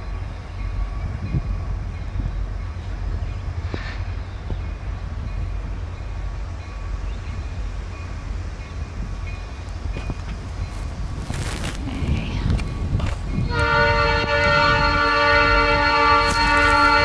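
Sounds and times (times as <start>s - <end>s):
train passing: 0.0s - 17.0s
wind rumbling on microphone: 0.0s - 17.0s.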